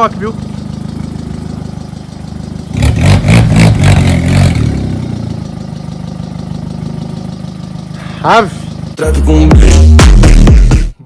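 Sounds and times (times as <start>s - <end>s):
car engine idling and revving: 0.0s - 10.9s.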